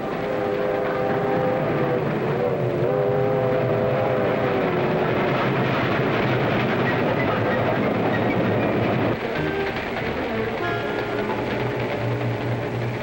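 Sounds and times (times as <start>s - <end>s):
train rushing at speed: 0.0s - 13.0s.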